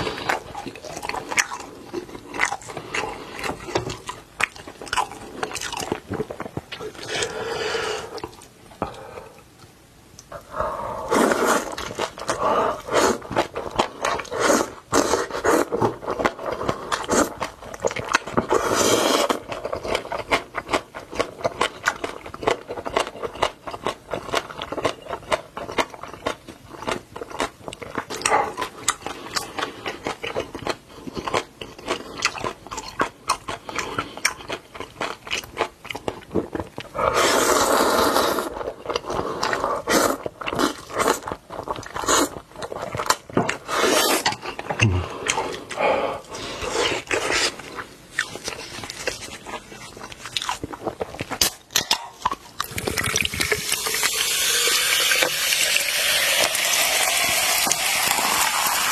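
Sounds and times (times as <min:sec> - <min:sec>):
chewing and crunching food: 0:00.0 - 0:10.6, 0:11.2 - 0:58.9.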